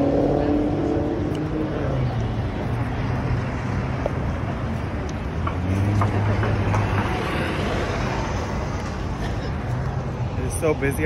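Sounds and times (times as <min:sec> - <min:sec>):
passing cars engine and tyre noise: 0:00.0 - 0:11.0.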